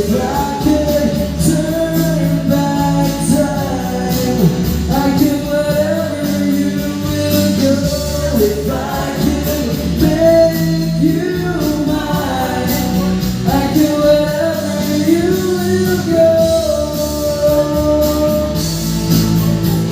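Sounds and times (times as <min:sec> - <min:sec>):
person singing into a microphone: 0:00.0 - 0:19.9
pop-rock band playing: 0:00.0 - 0:19.9.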